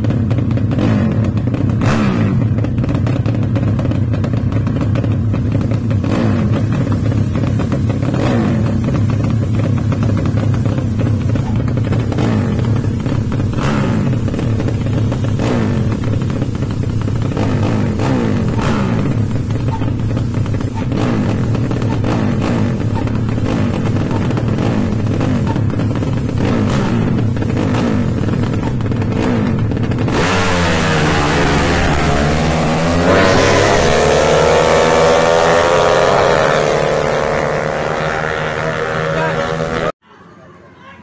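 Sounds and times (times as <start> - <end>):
motorcycle engine accelerating hard: 0.0 - 40.0
motorcycle engines revving in blips: 0.0 - 40.0.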